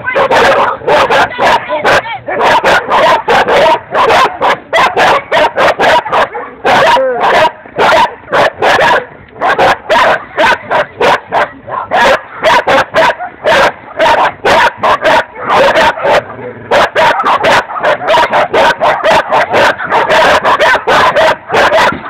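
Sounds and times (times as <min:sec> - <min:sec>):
dog barking: 0:00.1 - 0:22.0.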